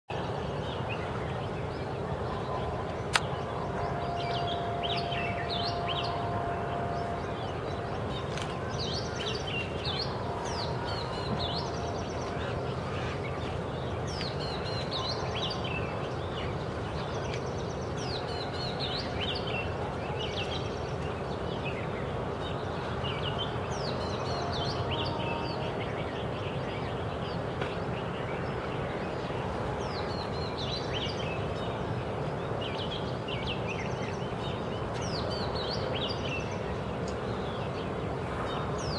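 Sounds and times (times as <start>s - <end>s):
background noise: 0.1s - 38.9s.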